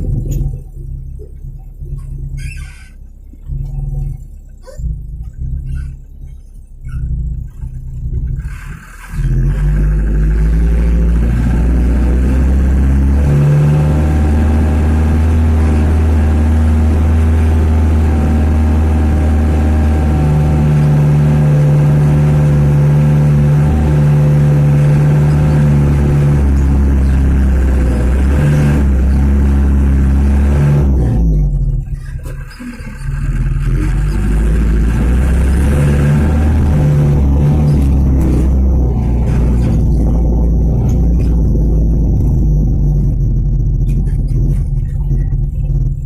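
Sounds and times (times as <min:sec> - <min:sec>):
truck diesel engine running: 0:00.0 - 0:46.0.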